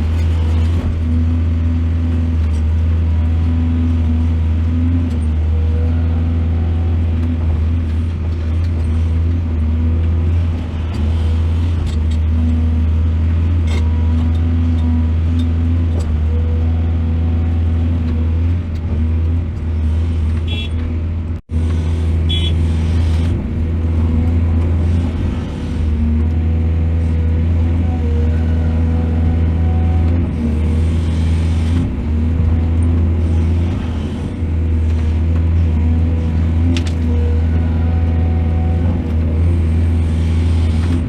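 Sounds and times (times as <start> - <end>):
heavy diesel machinery running: 0.0 - 41.0.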